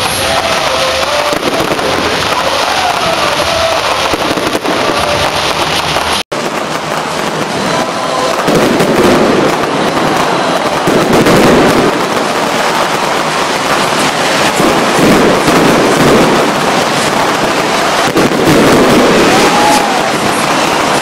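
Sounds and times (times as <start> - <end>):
fireworks bangs and crackling: 0.0 - 21.0
fireworks booms: 0.0 - 21.0.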